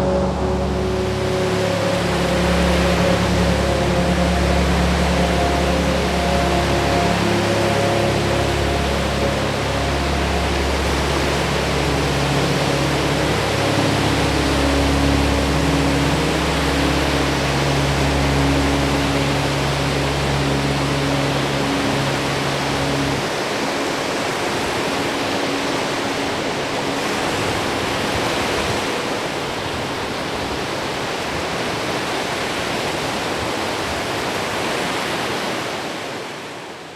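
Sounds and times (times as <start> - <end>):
soft low sustained music: 0.0 - 30.7
lake waves washing in: 0.0 - 36.9
wind: 0.0 - 36.9.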